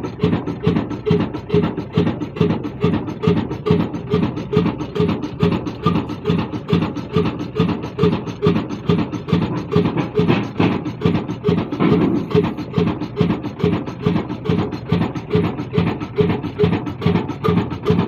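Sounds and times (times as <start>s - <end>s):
diesel engine heavy beats: 0.0s - 18.0s.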